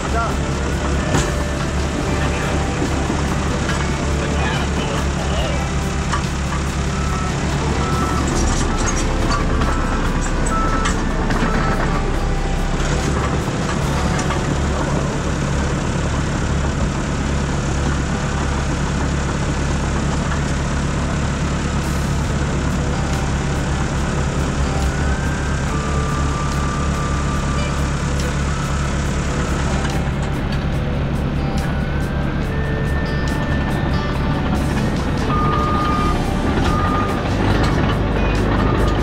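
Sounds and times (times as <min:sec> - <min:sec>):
diesel engine low drone: 0:00.0 - 0:39.0.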